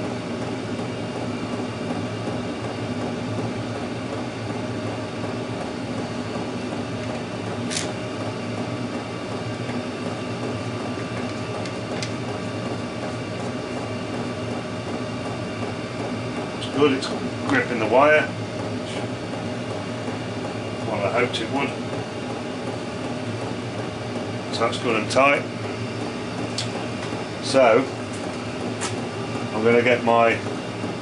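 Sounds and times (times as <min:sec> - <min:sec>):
heater humming and whirring: 0:00.0 - 0:31.0.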